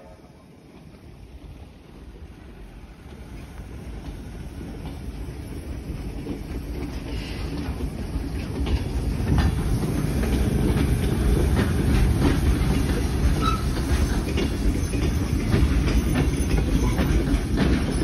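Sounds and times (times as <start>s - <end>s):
carriages rolling low rumble: 0.0s - 18.0s
wheels clacking over rail joints: 0.0s - 18.0s.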